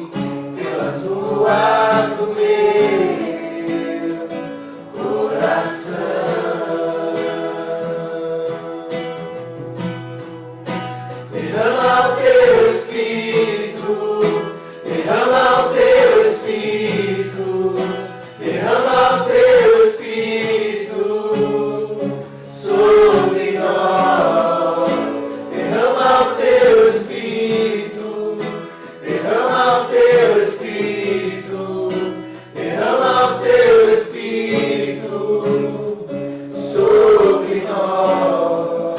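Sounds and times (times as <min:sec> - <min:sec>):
acoustic guitar: 0:00.0 - 0:38.9
group singing worship song: 0:00.0 - 0:38.9.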